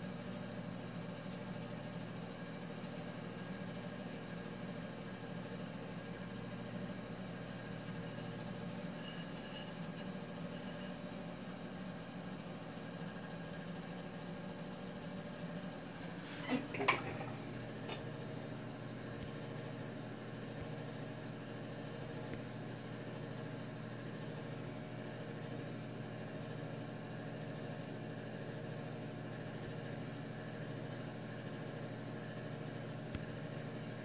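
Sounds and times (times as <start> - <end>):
low machinery hum: 0.0 - 34.0.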